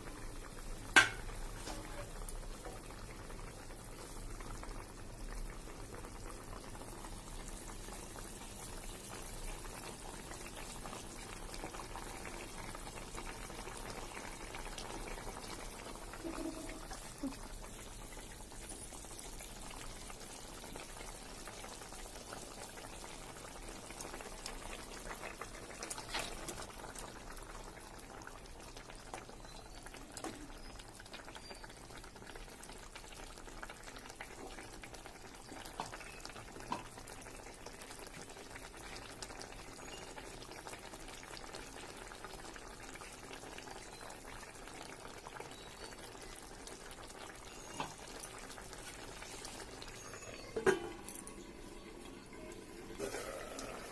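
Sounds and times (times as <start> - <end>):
curry bubbling and sizzling: 0.0 - 53.9.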